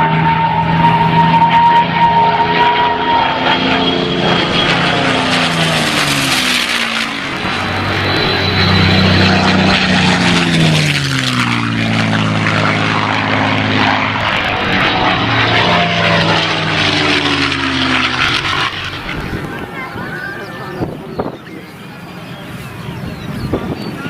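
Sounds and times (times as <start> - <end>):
propeller plane engine fly-by: 0.0 - 24.0.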